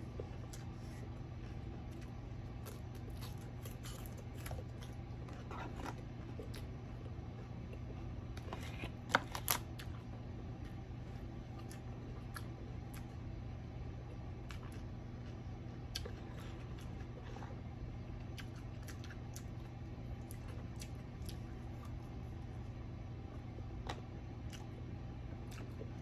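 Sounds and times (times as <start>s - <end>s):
steady low hum: 0.0s - 26.0s
person chewing fried food: 0.1s - 13.2s, 14.1s - 22.6s, 23.2s - 26.0s.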